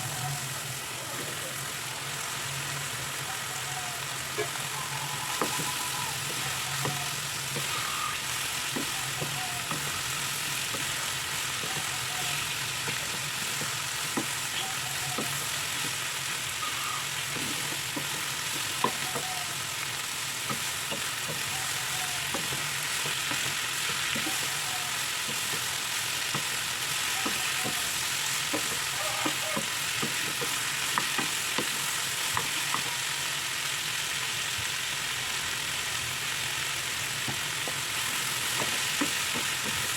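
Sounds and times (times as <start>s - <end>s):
food sizzling in frying pan: 0.0s - 39.9s.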